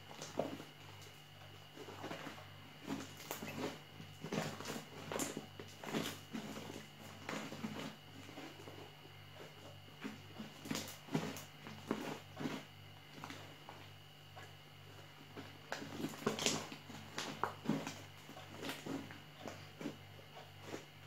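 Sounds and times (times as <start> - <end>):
low steady hum: 0.0 - 21.0
slime squelching: 0.1 - 21.0.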